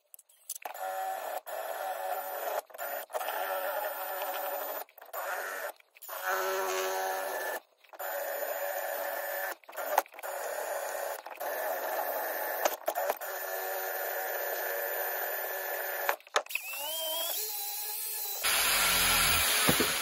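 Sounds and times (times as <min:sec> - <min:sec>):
rotary tool whining on metal: 0:00.0 - 0:20.0.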